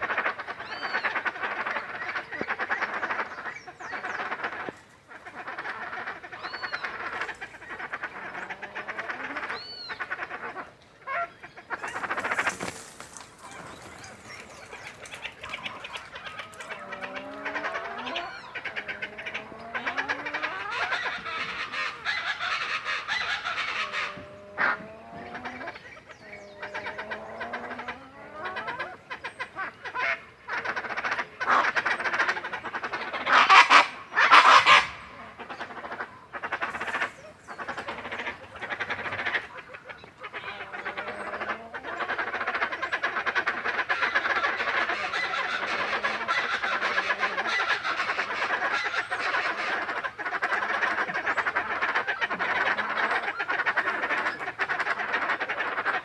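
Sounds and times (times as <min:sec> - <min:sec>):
animal croaking calls: 0:00.0 - 0:56.0
pulsing croaking chorus: 0:00.0 - 0:56.0.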